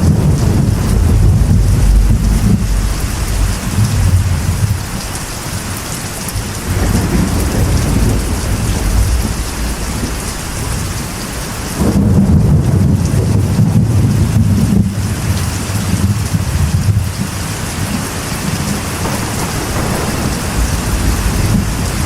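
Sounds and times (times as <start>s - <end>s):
thunder rumbling: 0.0s - 15.3s, 17.8s - 22.0s
rain drumming on a metal roof: 0.0s - 22.0s.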